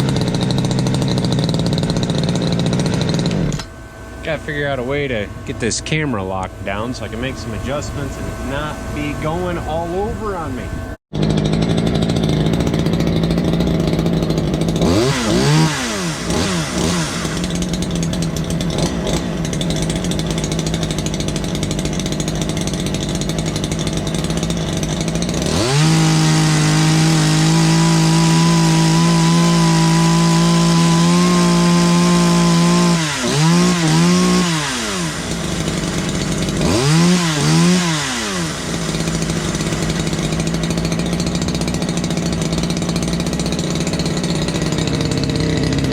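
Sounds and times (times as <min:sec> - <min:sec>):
chainsaw idling and revving: 0:00.0 - 0:45.9.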